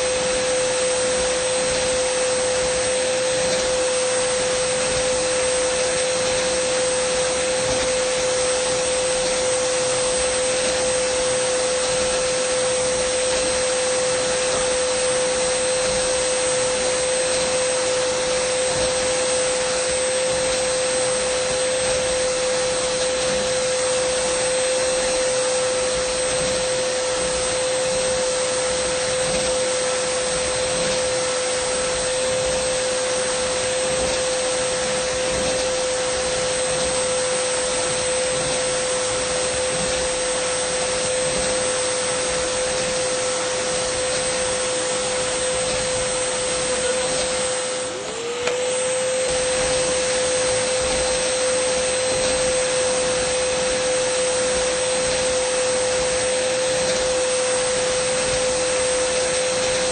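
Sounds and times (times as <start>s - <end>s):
vacuum cleaner motor whining: 0.0s - 59.9s.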